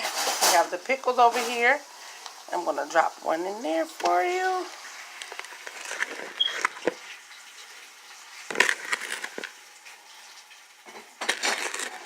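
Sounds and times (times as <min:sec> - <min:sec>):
hot grease sizzling and popping: 0:00.0 - 0:12.0.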